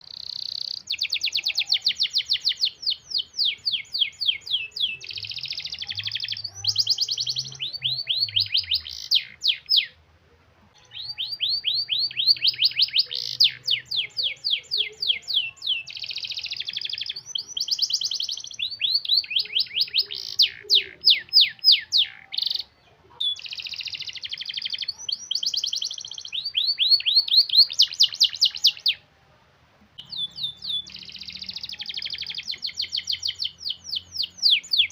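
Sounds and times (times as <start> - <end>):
canary singing rolling trills: 0.0 - 10.1, 10.7 - 29.1, 29.8 - 34.9.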